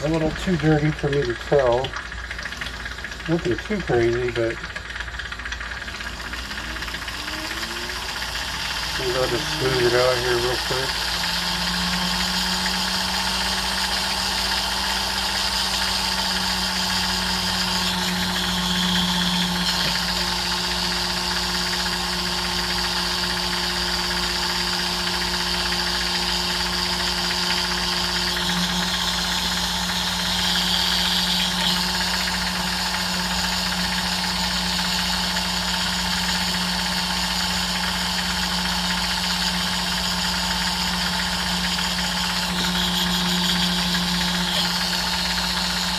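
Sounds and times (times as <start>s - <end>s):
rotary tool whining: 0.0s - 45.9s.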